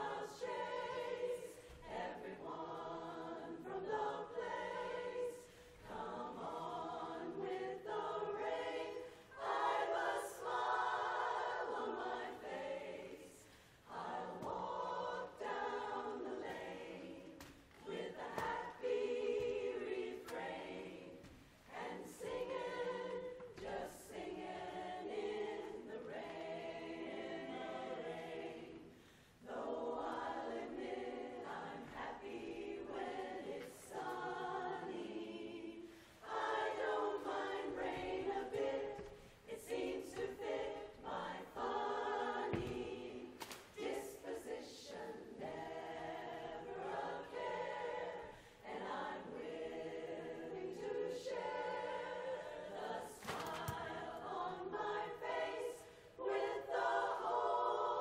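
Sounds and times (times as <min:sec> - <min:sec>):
women's chorus singing a cappella: 0:00.0 - 0:58.0.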